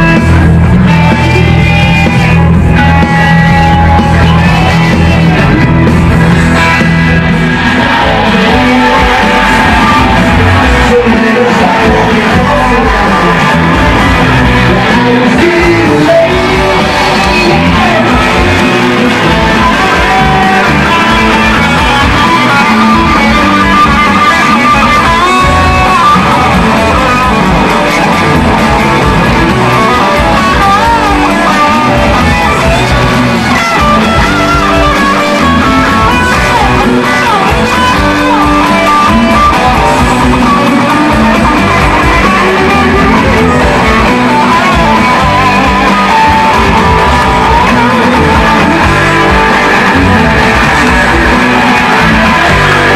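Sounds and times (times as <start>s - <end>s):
bass guitar: 0.0s - 52.9s
drums: 0.0s - 52.9s
electric guitars: 0.0s - 52.9s
keyboards: 0.0s - 52.9s
wavering lead melody: 0.0s - 52.9s.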